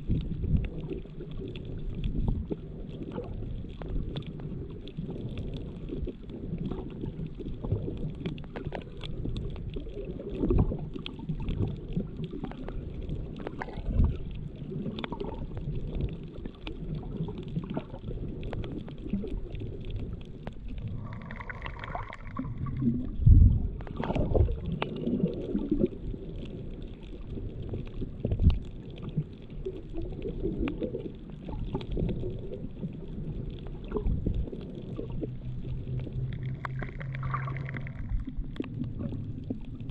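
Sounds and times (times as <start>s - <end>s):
muffled underwater water rumble: 0.0s - 39.9s
underwater knocks and thumps: 5.1s - 26.0s, 27.5s - 39.9s.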